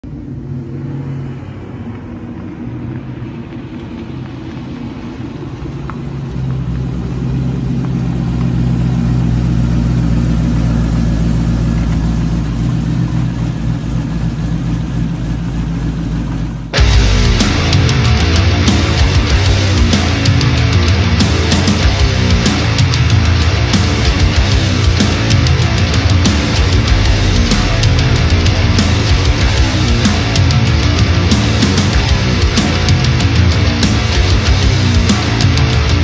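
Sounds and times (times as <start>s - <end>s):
car engine running: 1.6s - 36.0s.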